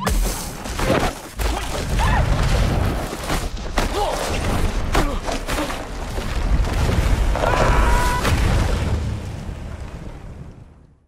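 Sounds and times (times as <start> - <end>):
debris flying: 0.2 - 10.8.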